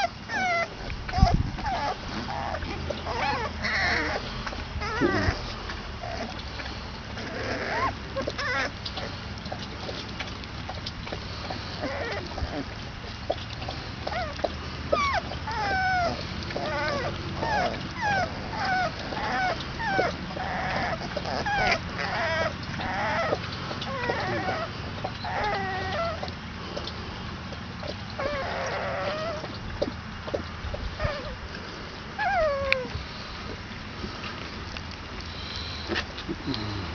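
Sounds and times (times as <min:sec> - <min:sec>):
puppies whimpering and squealing: 0:00.0 - 0:36.9.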